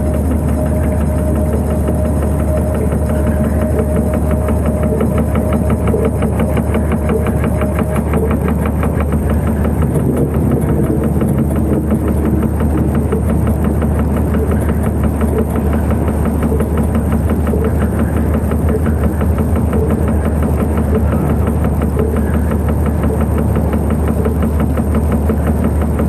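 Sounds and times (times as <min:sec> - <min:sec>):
thin high whine: 0:00.0 - 0:24.4
dark ambient music: 0:00.0 - 0:26.0
machine-like low drone: 0:00.0 - 0:26.0.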